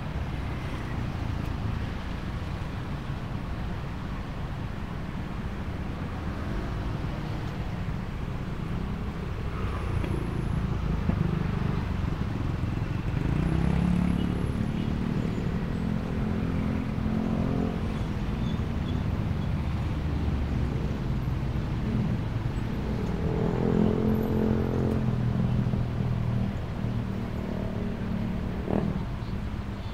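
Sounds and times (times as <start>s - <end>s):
road traffic rumble: 0.0s - 29.9s.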